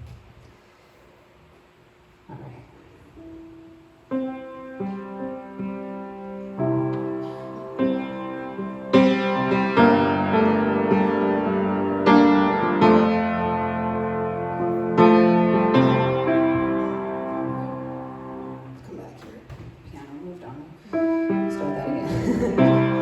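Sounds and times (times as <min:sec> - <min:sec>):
piano chords ringing: 0:02.4 - 0:19.5, 0:20.4 - 0:23.0.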